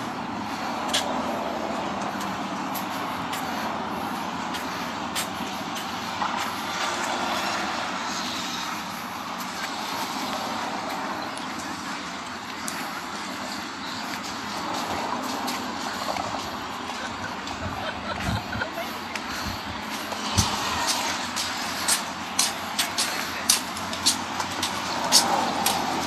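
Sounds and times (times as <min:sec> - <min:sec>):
sea breeze: 0:00.0 - 0:26.0.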